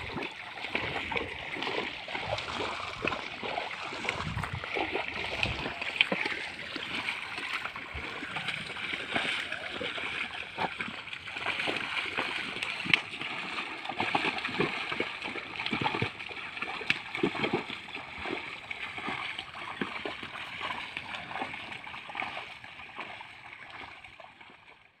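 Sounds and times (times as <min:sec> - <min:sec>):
hooves splashing in water: 0:00.0 - 0:24.9
muddy water sloshing and splashing: 0:00.0 - 0:25.0.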